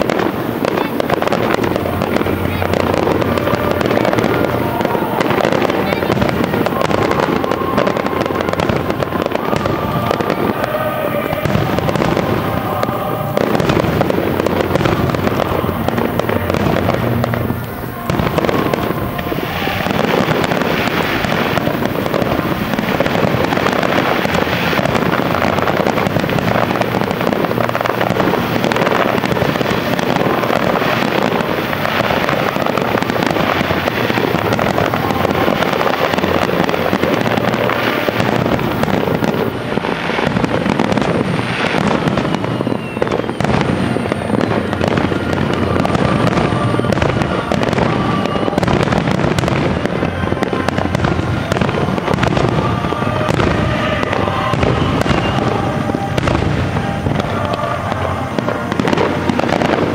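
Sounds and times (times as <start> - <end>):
firework shells bursting: 0.0 - 59.9.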